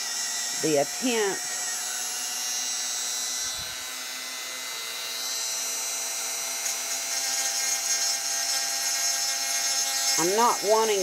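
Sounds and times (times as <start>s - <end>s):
rotary tool grinding plastic: 0.0s - 11.0s.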